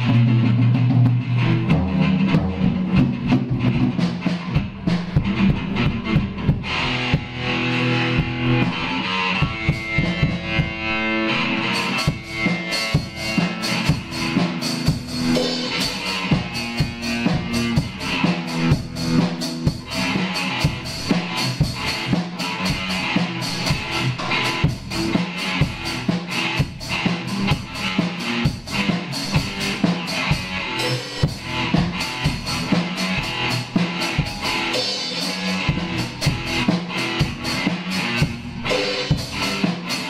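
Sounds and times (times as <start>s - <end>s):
drum and cymbal hits: 0.0s - 40.0s
electric guitar chords: 0.0s - 40.0s.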